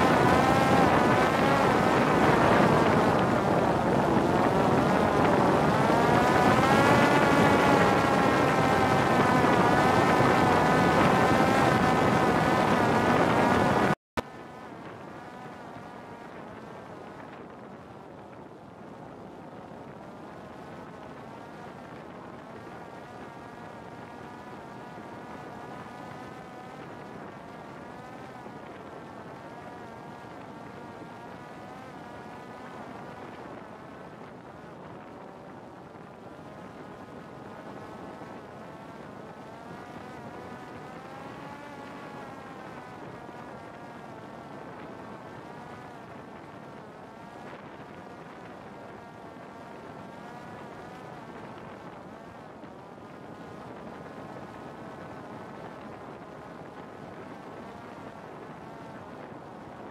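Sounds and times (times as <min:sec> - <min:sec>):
drone propeller whine: 0:00.0 - 0:18.2, 0:18.8 - 0:59.0.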